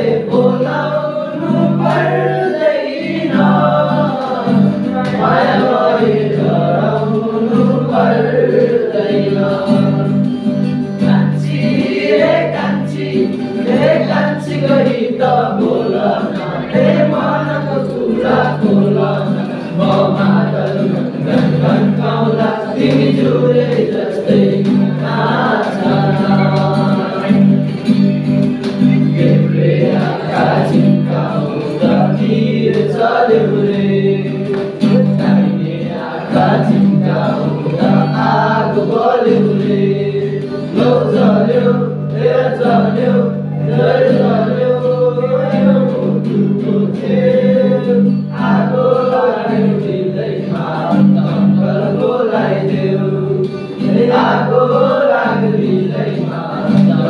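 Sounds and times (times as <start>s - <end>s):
strummed acoustic guitar: 0.0s - 57.0s
young men singing together: 0.0s - 57.0s.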